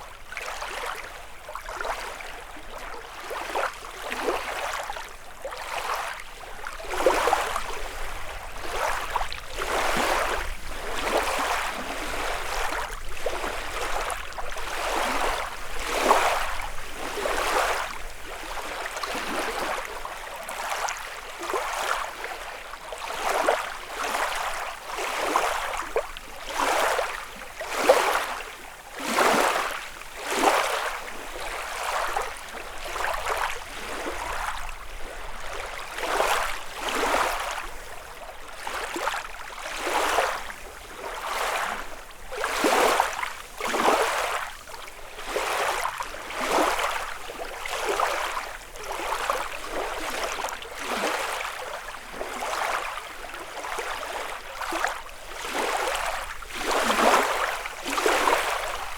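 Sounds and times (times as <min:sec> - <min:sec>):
waves lapping on shore: 0:00.0 - 0:58.9.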